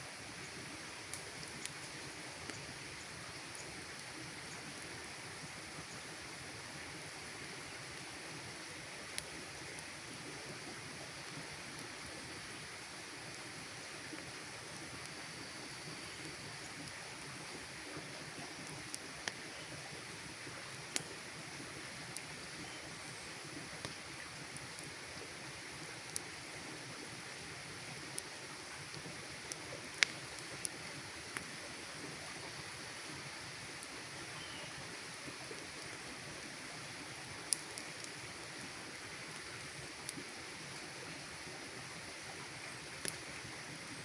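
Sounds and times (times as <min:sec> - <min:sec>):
campfire crackling and popping: 0:00.1 - 0:44.0.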